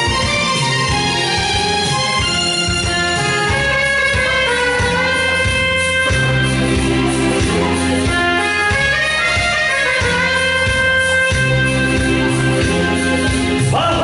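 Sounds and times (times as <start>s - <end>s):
instrumental backing track: 0.0s - 14.0s.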